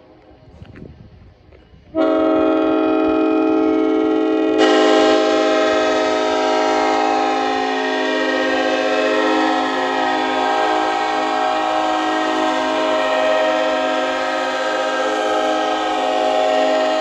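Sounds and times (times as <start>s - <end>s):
train air horn chord: 1.9s - 17.0s.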